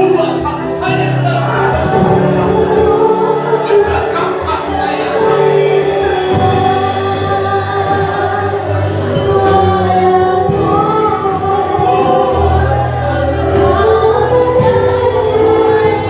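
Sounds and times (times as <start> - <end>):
group singing worship song: 0.0 - 16.0
instrumental accompaniment: 0.0 - 16.0.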